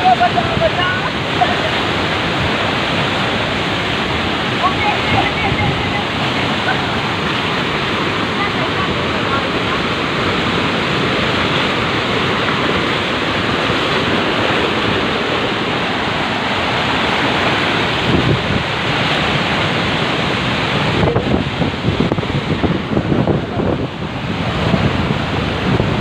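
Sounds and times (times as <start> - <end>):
floodwater rushing: 0.0 - 26.0
wind buffeting microphone: 0.0 - 26.0.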